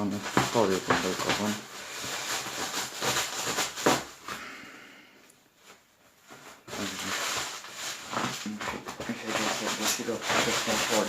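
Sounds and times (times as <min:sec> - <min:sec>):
plastic film rustling and crinkling: 0:00.0 - 0:04.4, 0:05.5 - 0:11.0.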